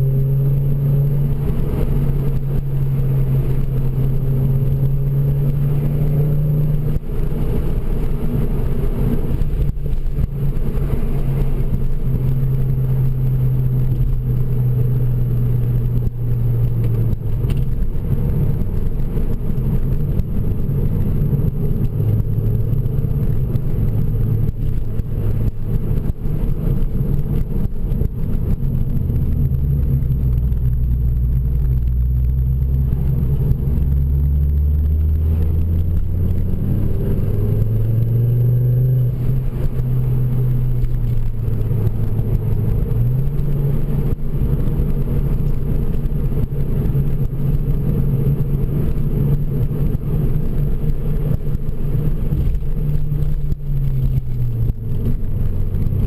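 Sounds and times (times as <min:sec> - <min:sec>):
car engine and exhaust in cabin: 0:00.0 - 0:56.0.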